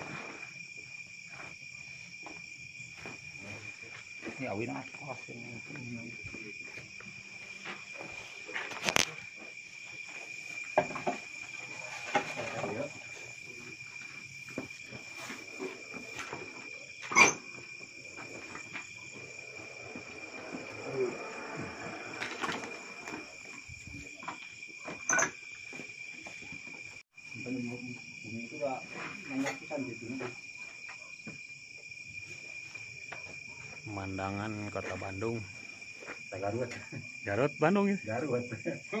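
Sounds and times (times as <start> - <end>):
night insects trilling: 0.0 - 39.0.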